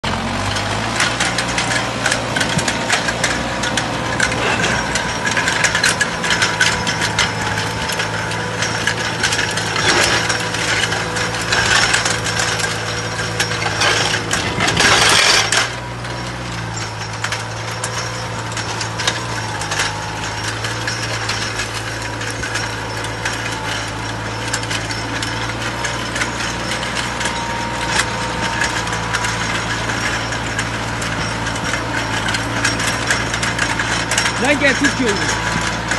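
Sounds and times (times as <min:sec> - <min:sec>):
cultivator tines scraping soil: 0:00.0 - 0:35.9
tractor diesel engine whining: 0:00.0 - 0:35.9.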